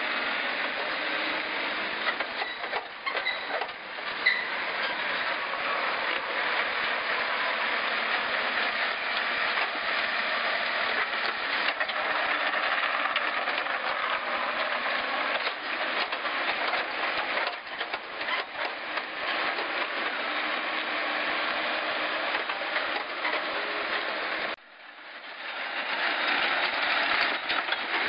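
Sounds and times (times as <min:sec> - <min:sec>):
diesel engine running: 0:00.0 - 0:24.6.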